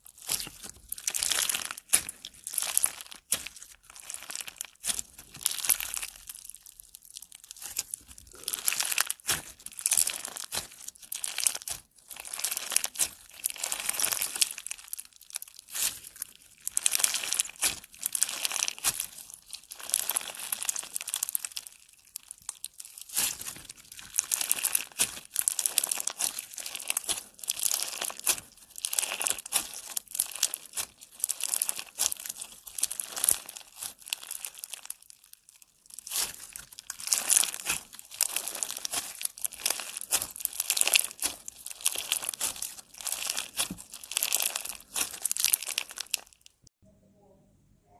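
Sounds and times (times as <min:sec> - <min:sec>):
slime crackling when squeezed: 0:00.1 - 0:46.7.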